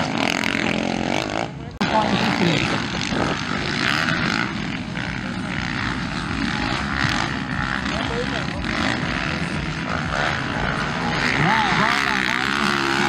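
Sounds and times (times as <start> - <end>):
motocross bike engines buzzing: 0.0 - 13.0.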